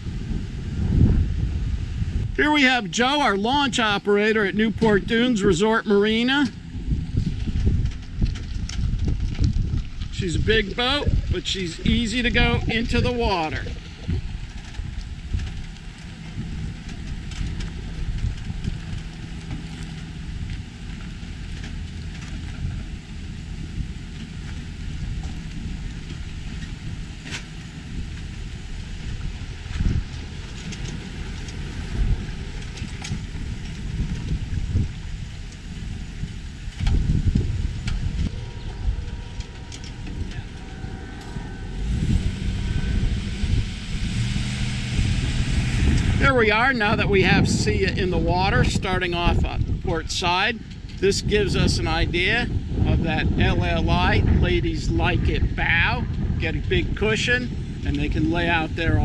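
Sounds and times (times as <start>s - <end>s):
truck engine running: 0.0s - 59.0s
wind buffeting microphone: 0.0s - 59.0s.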